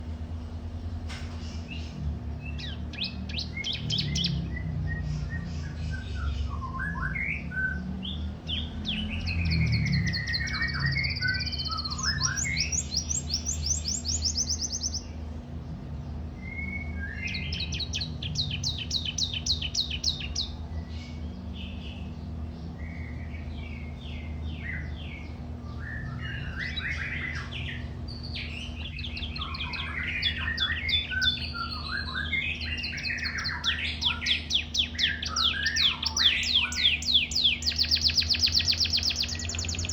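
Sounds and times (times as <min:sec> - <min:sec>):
canary singing trills: 0:00.0 - 0:39.9
low hum: 0:00.0 - 0:39.9.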